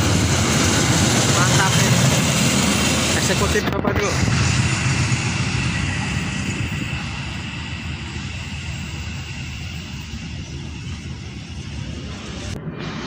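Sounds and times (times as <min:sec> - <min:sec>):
passenger train rumbling on rails: 0:00.0 - 0:13.0.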